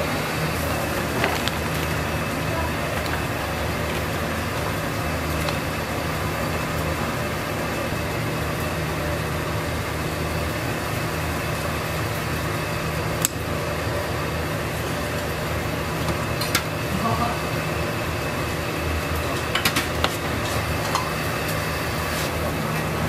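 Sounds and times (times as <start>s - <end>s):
kitchen machinery humming: 0.0s - 23.0s.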